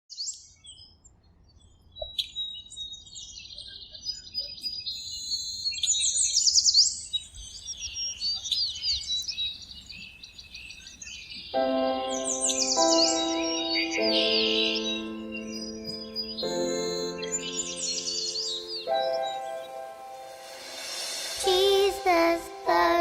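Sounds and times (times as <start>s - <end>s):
songbirds chirping and singing: 0.2s - 23.0s.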